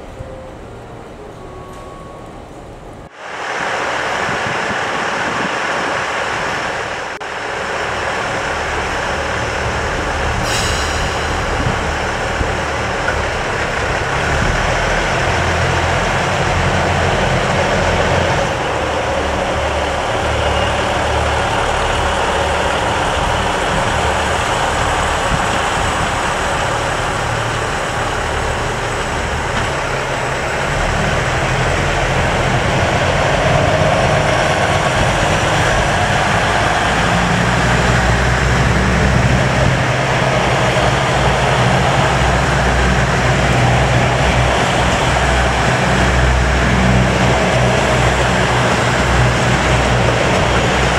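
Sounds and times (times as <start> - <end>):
diesel engines rumbling: 0.0 - 50.9
train wheels on rails: 0.0 - 50.9.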